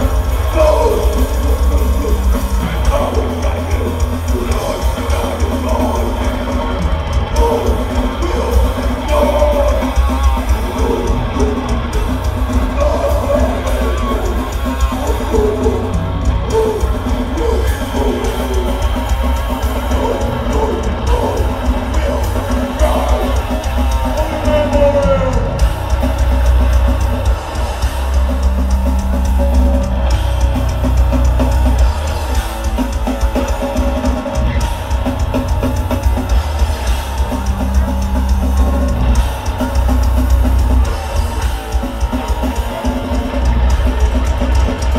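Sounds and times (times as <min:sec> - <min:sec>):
distorted electric guitars: 0:00.0 - 0:44.9
drum kit: 0:00.0 - 0:44.9
electric bass: 0:00.0 - 0:44.9.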